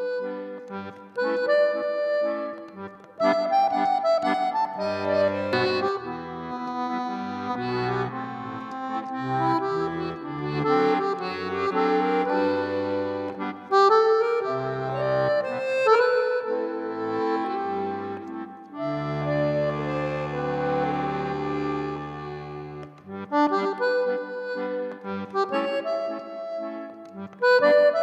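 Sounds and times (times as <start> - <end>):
instrumental music: 0.0 - 28.0.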